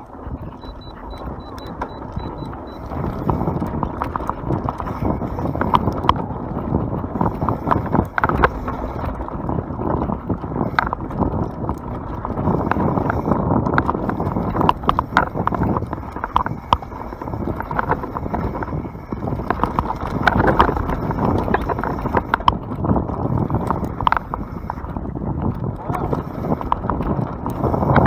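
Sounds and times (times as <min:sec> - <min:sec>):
bike chain and frame rattling: 0:00.0 - 0:28.0
tyres rumbling over dirt: 0:00.0 - 0:28.0.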